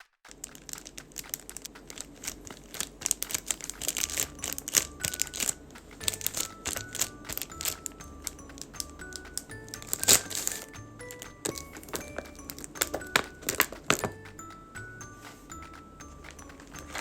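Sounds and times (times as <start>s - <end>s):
soft chiming background music: 3.3s - 17.0s.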